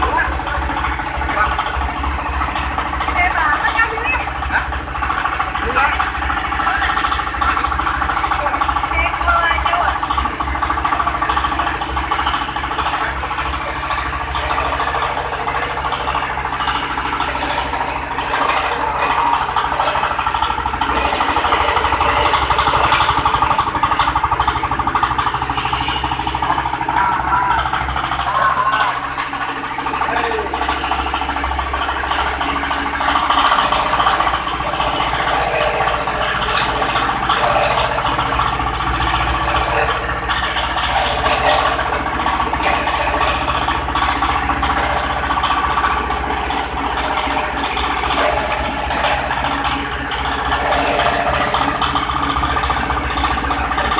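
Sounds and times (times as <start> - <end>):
grinding machine pulsing: 0.0 - 53.9
low drone: 0.0 - 53.9.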